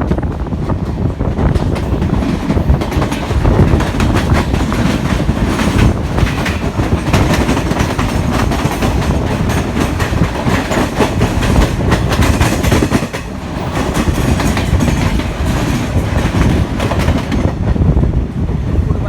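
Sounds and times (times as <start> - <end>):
train running noise: 0.0 - 19.0
train wheels clicking over rail joints: 0.1 - 17.9.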